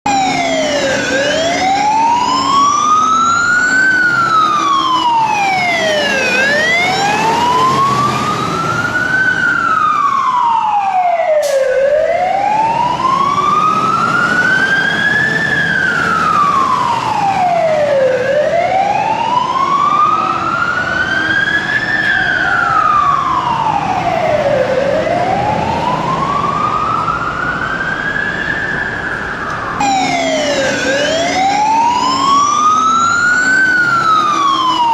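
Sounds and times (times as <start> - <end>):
fire truck siren wailing: 0.0 - 34.9.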